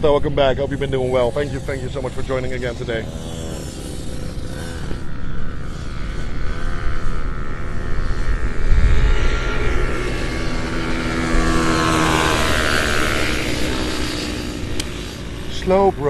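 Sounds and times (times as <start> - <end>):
motor vehicle passing: 0.0 - 16.0.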